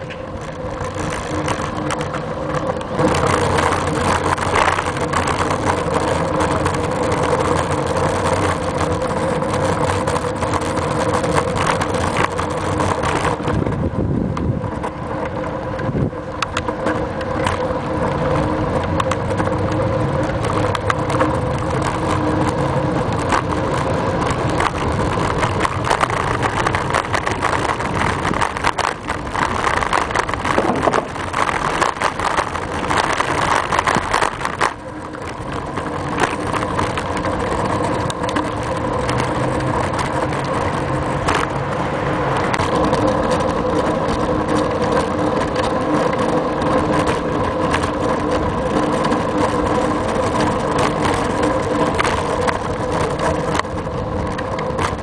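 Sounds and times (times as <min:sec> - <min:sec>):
bicycle tyres rolling on pavement: 0:00.0 - 0:55.0
wind on microphone: 0:10.8 - 0:55.0.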